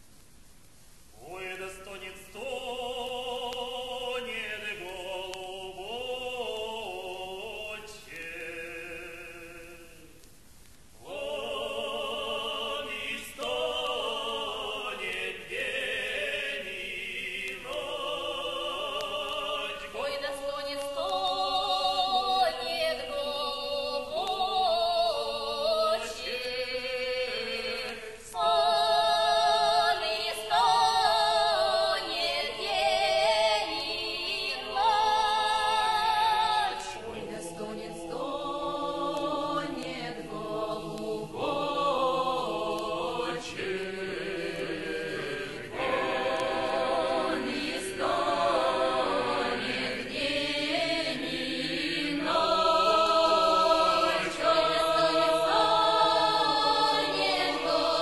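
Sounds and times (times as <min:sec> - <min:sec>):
folk choir singing: 0:01.2 - 0:10.2, 0:11.0 - 0:58.0.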